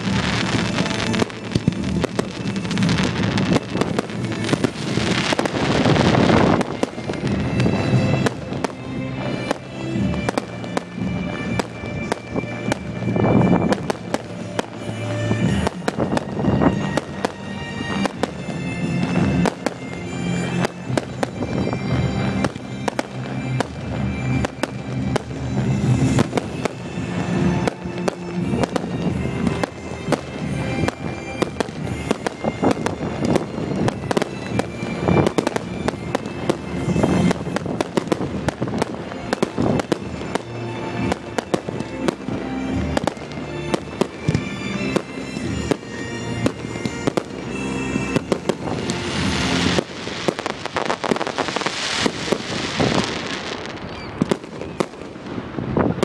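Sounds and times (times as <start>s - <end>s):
fireworks bangs and crackling: 0.0s - 56.0s
music playing: 0.0s - 56.0s.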